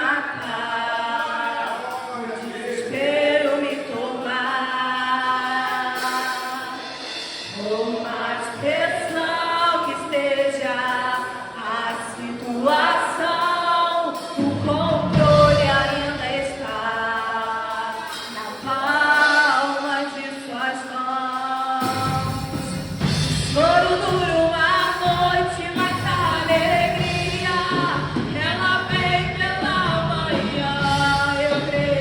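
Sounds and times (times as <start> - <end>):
worship singing: 0.0 - 32.0.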